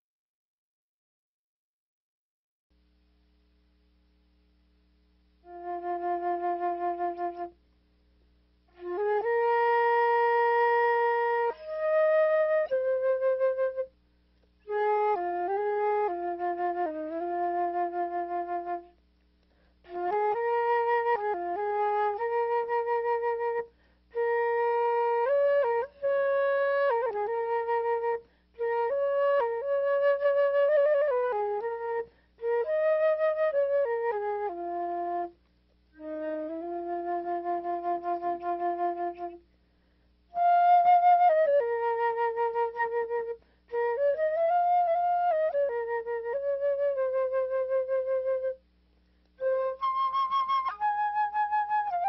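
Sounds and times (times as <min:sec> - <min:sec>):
flute playing slow melody: 0:05.4 - 0:07.6, 0:08.7 - 0:14.0, 0:14.6 - 0:19.0, 0:19.8 - 0:35.4, 0:36.0 - 0:39.5, 0:40.3 - 0:48.6, 0:49.3 - 0:52.0.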